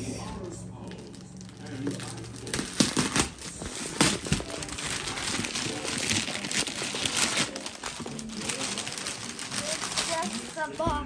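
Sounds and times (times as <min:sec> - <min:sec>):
wrapping paper crinkling: 0:00.8 - 0:11.0
paper ripping: 0:01.4 - 0:11.0.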